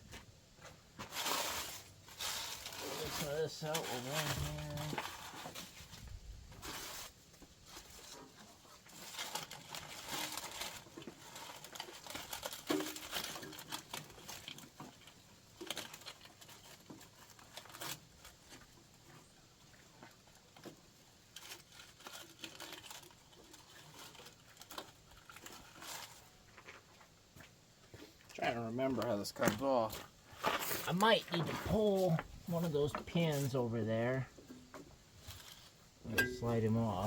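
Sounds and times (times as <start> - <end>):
hands rustling and scraping: 0.1 - 28.2, 29.0 - 33.7.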